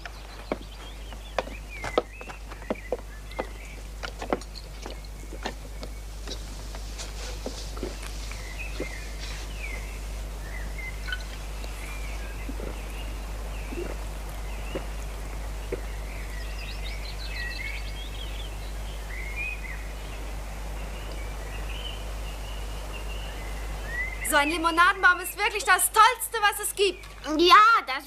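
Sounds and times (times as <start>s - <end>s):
low background hum: 0.0s - 28.0s
small birds chirping: 0.0s - 28.0s.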